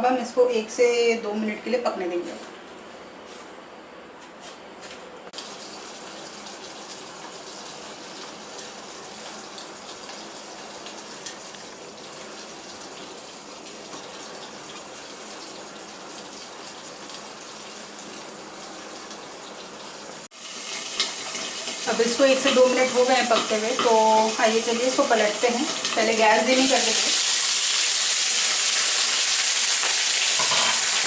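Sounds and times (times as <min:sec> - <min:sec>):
chillies sizzling in hot oil: 0:05.4 - 0:31.0.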